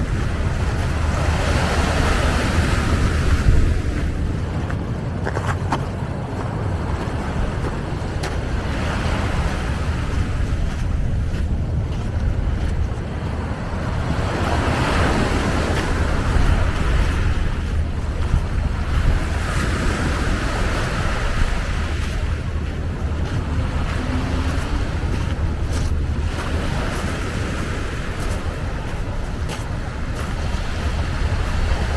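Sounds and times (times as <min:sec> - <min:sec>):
surf washing onto beach: 0:00.0 - 0:31.9
wind rumbling on microphone: 0:00.0 - 0:31.9.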